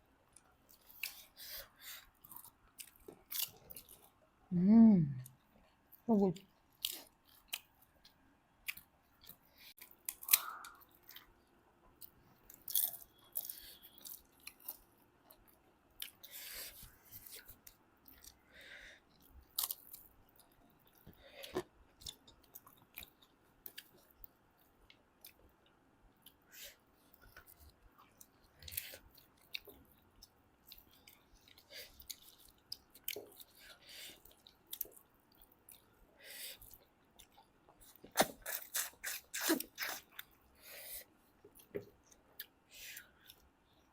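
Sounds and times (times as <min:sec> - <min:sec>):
people chewing food: 0:00.2 - 0:04.3, 0:05.1 - 0:43.9.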